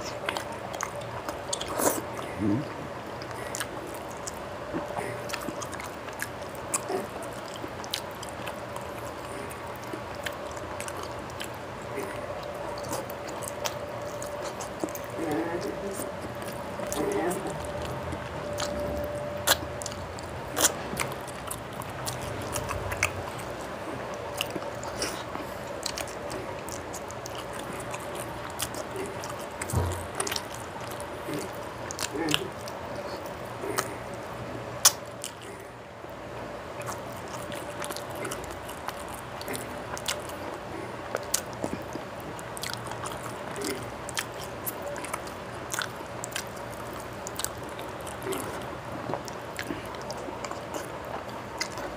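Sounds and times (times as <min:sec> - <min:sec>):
person chewing: 0:00.0 - 0:35.8, 0:36.6 - 0:51.9.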